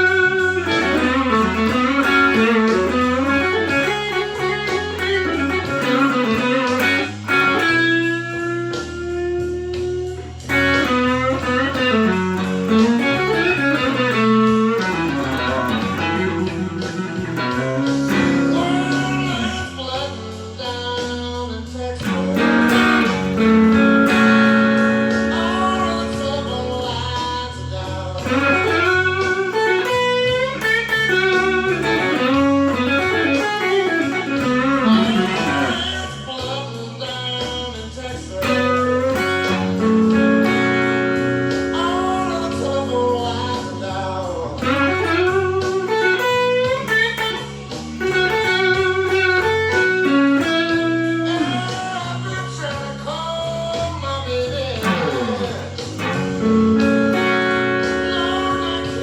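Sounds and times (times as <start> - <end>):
bass: 0.0 - 59.0
drums: 0.0 - 59.0
overdriven electric blues guitar: 0.0 - 59.0.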